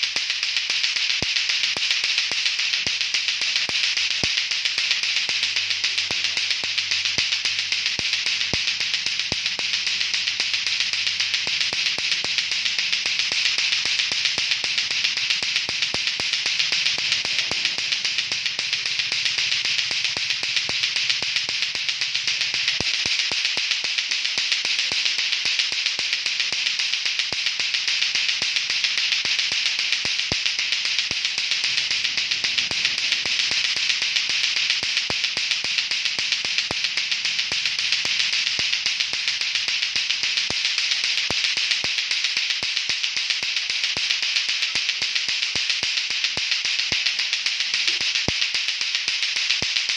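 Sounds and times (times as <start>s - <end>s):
plastic balls clacking together: 0.0s - 49.9s.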